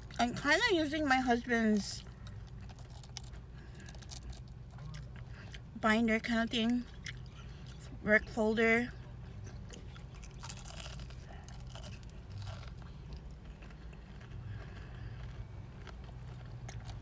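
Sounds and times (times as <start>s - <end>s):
person chewing crunchy food: 0.0s - 8.3s, 8.9s - 17.0s
steady low hum: 0.0s - 17.0s.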